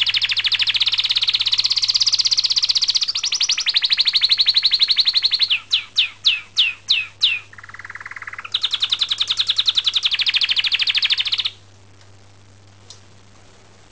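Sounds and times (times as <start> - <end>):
canary singing: 0.0 - 11.6.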